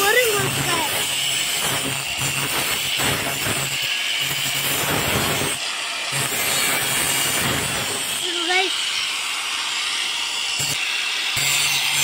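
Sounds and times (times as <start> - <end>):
angle grinder grinding steel: 0.0 - 12.0.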